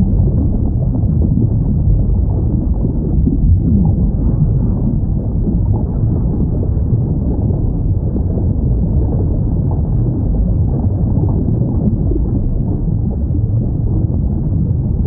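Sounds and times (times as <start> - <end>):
underwater rumble: 0.0 - 15.0.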